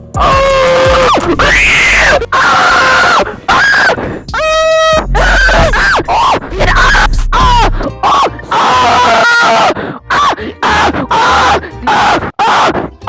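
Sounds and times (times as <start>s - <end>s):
person screaming: 0.2s - 12.9s.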